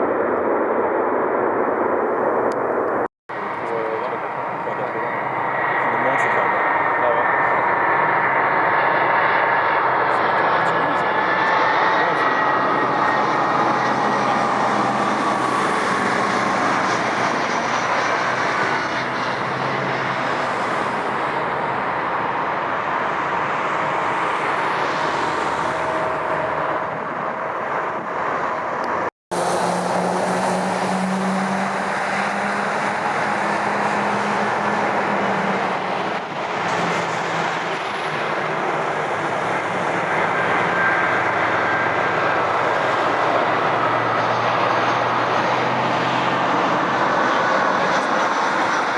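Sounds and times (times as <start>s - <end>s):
jet engines running: 0.0s - 48.9s.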